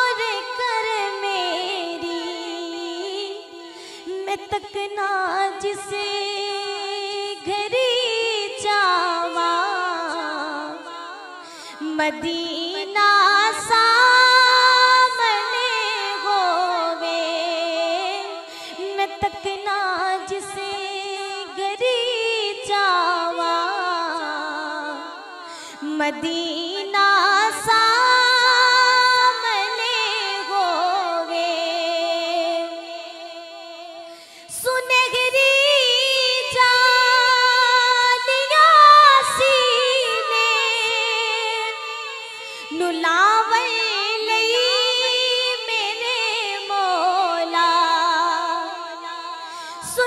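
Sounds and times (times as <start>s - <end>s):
woman singing into a microphone: 0.0s - 50.0s.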